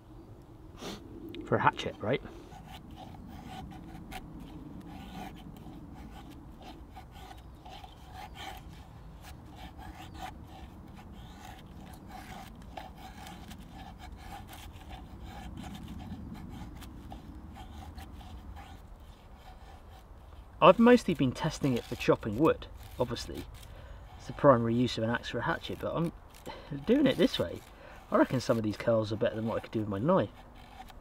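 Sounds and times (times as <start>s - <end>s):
stick scraping along hatchet blade: 0.8s - 31.0s.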